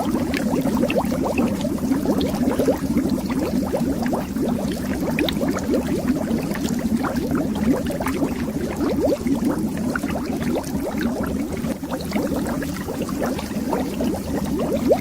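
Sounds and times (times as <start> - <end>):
air bubbles underwater: 0.0 - 15.0.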